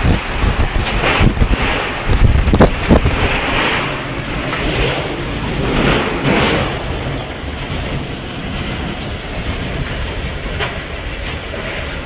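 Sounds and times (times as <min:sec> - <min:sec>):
tornado winds rumbling: 0:00.0 - 0:12.0.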